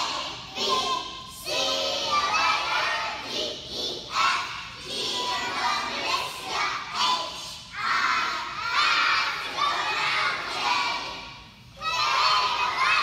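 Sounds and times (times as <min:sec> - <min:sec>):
children singing in unison: 0:00.0 - 0:13.0.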